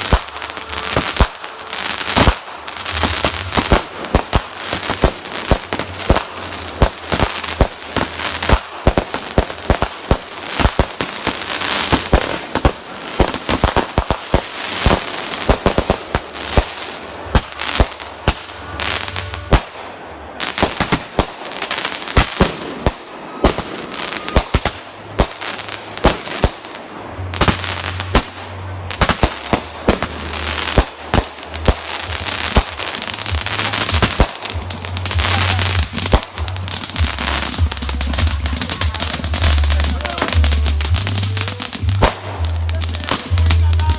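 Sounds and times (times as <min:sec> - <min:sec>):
fireworks banging and crackling: 0:00.0 - 0:43.9.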